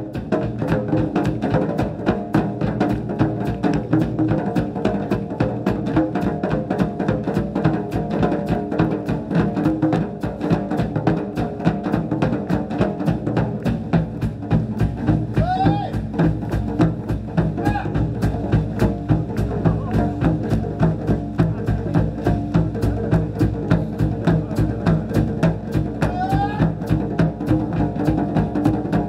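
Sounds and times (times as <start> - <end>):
drums in a driving beat: 0.0 - 29.0.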